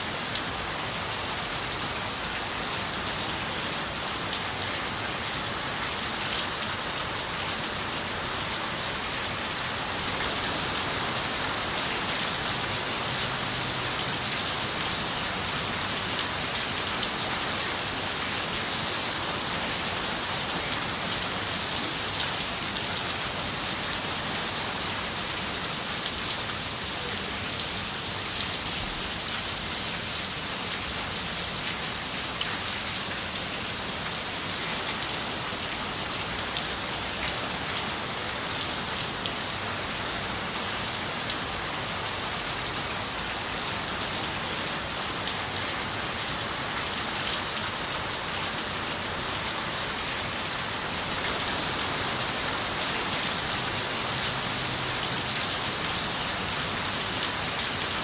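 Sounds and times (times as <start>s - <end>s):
rain on a window: 8.9s - 58.0s.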